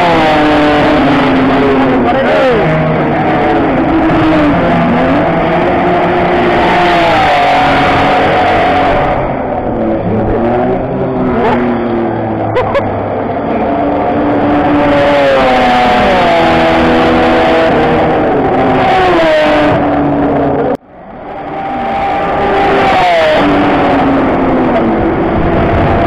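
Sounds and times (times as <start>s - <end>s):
racing car engines passing: 0.0s - 26.0s.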